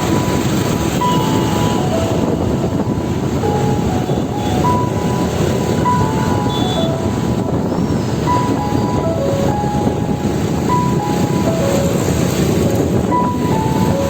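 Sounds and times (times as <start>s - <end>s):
loud vehicle rumble: 0.0s - 14.0s.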